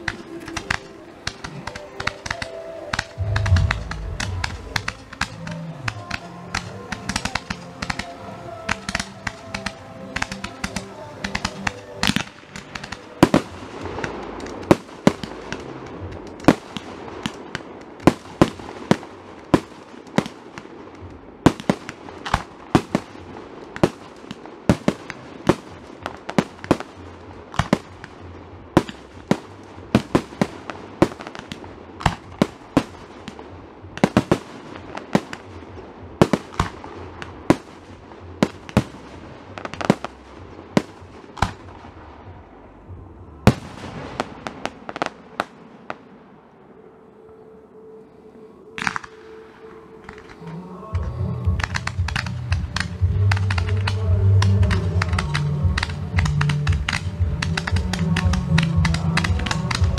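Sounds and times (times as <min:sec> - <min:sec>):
fireworks bangs: 0:00.0 - 0:47.6, 0:48.7 - 0:59.9
steady background noise: 0:00.0 - 0:59.9.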